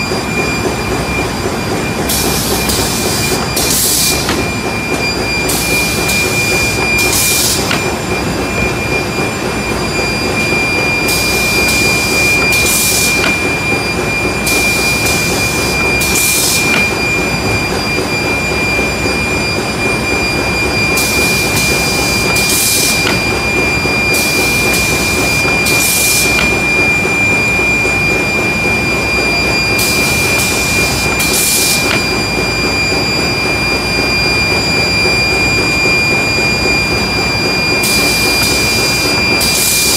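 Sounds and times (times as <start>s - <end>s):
machine din with high whine: 0.0s - 39.9s.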